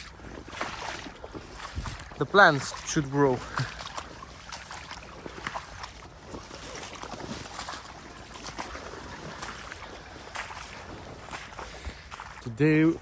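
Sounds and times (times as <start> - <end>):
wading through water splashing: 0.0 - 13.0.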